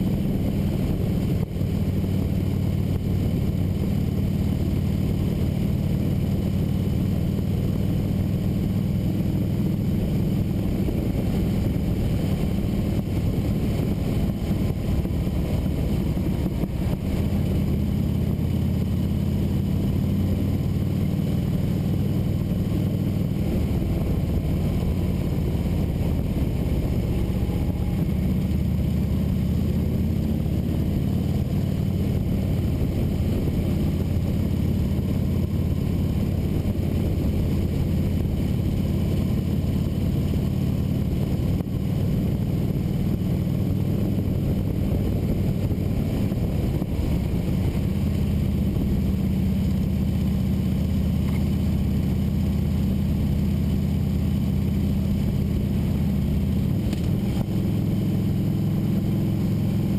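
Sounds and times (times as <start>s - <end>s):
motorcycle engine cruising: 0.0s - 59.9s
road noise: 0.0s - 59.9s
wind: 0.0s - 59.9s.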